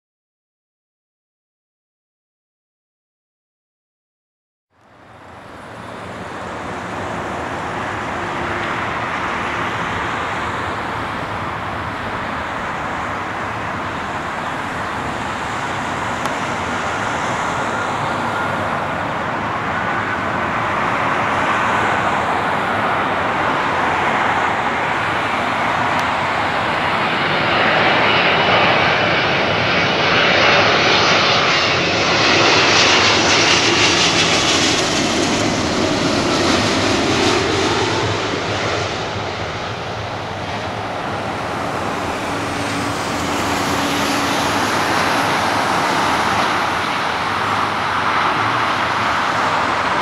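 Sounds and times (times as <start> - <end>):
jet engines rushing with whine: 4.8 - 50.0.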